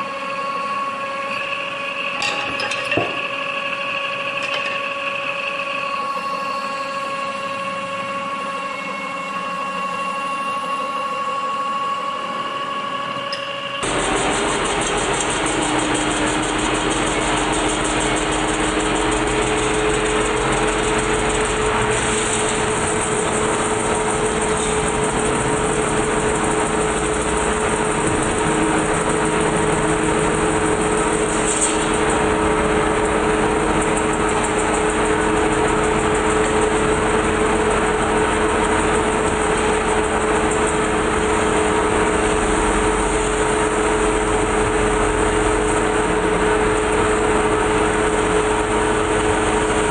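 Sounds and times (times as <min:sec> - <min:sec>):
metal spinning lathe drone: 0:00.0 - 0:49.9.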